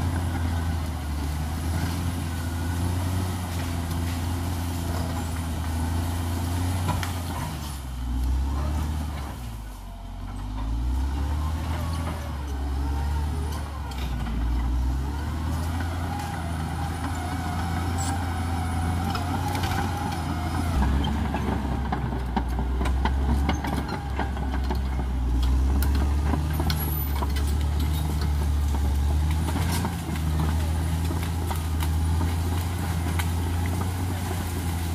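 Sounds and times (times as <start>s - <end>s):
bulldozer diesel engine running: 0.0s - 34.9s.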